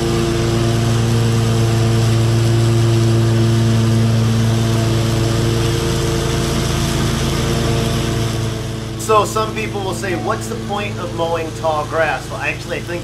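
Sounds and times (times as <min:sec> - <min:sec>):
riding mower engine humming: 0:00.0 - 0:13.0.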